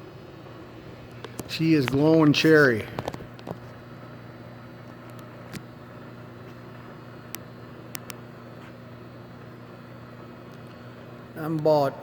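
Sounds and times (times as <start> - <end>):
furnace electrical hum: 0.0 - 12.0.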